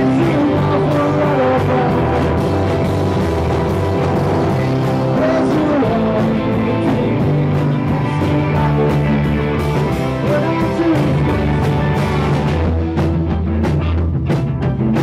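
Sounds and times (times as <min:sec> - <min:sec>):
electric guitar: 0:00.0 - 0:15.0.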